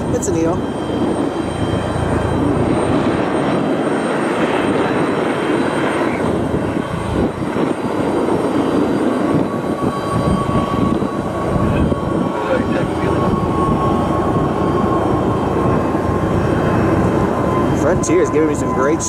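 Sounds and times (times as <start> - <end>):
jet engines roaring: 0.0 - 19.0
steady high whine: 0.0 - 19.0.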